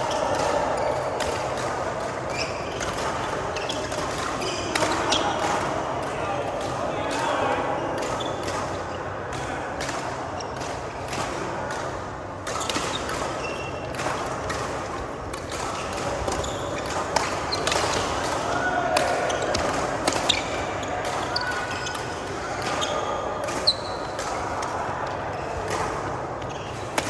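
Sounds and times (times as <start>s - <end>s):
racket hitting shuttlecock: 0.0s - 27.0s.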